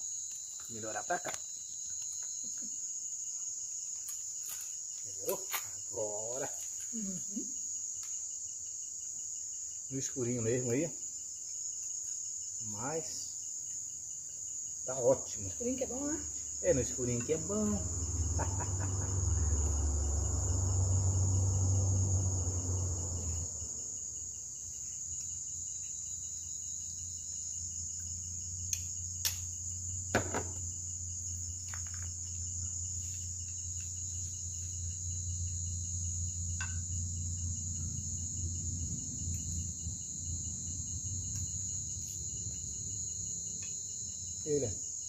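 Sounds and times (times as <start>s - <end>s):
night insects trilling: 0.0s - 45.0s.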